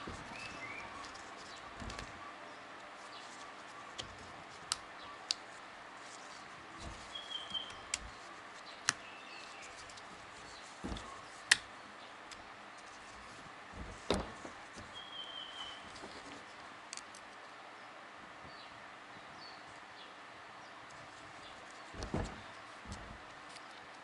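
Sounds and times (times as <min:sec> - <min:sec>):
gloved hands handling thumps: 0:00.0 - 0:17.4, 0:20.9 - 0:24.0.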